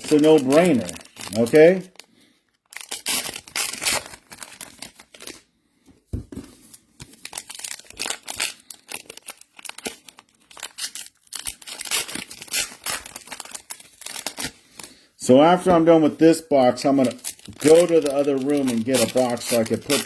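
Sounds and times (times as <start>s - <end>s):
card wrappers tearing and crinkling: 0.0s - 5.5s, 6.6s - 15.0s, 16.6s - 20.0s.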